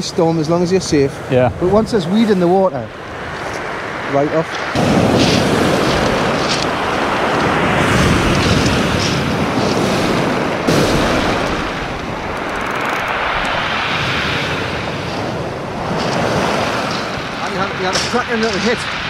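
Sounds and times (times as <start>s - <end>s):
wind rumbling on microphone: 0.0s - 19.0s
surf breaking on pebble beach: 3.0s - 19.0s.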